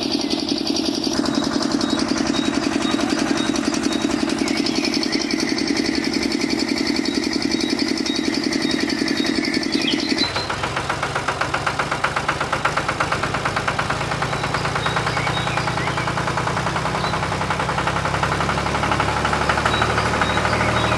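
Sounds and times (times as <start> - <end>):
small motor running: 0.0 - 20.9.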